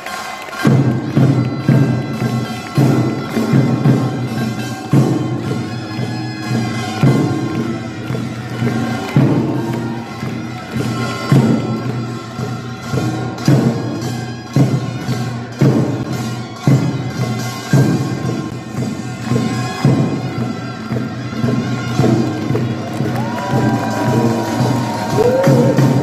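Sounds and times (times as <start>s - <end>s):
barrel drums beating: 0.5s - 26.0s.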